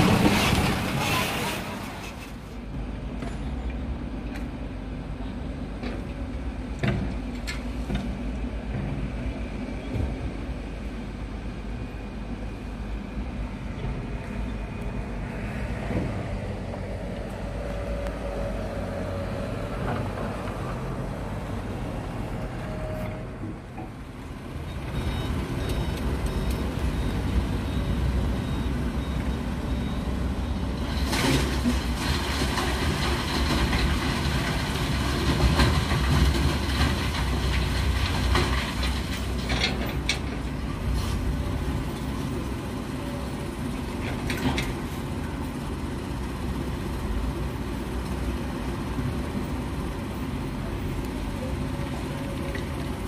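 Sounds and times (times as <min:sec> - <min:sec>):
dump truck engines running: 0:00.0 - 0:53.0.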